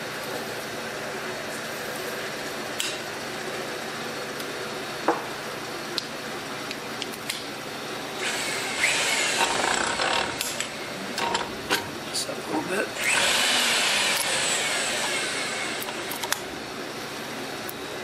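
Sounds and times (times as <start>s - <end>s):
workshop hum: 0.0s - 18.0s.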